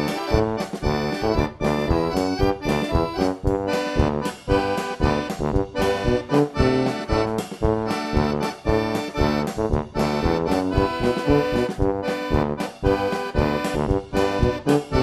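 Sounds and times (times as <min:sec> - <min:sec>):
instrumental music with steady beat: 0:00.0 - 0:15.0.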